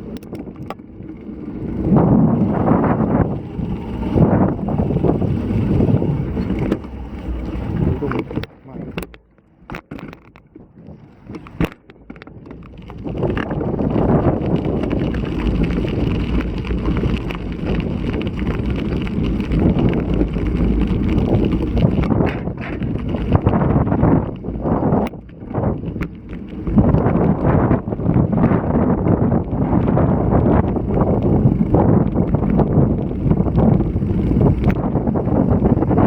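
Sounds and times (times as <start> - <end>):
wind buffeting microphone: 0.0 - 9.8, 10.7 - 36.0.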